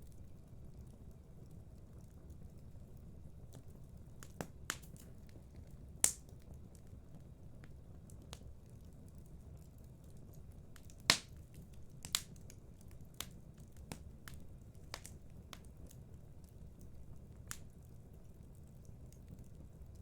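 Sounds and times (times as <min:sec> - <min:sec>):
wood fire crackling: 0:00.0 - 0:20.0
fire popping: 0:00.1 - 0:20.0.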